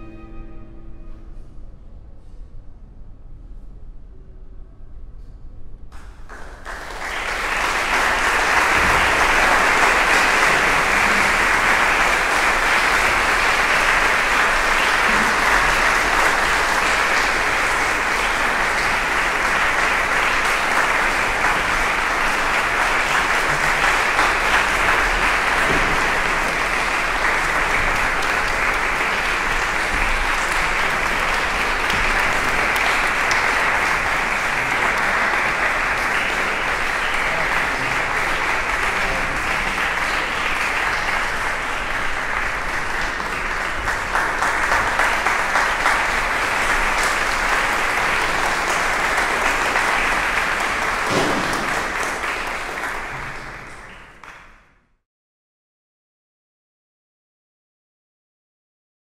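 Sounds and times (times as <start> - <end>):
audience applauding: 6.0 - 54.6.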